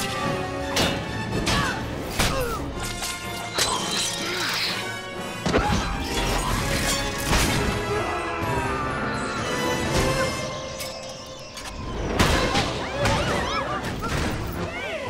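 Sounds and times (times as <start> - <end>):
dramatic orchestral film music: 0.0 - 15.0.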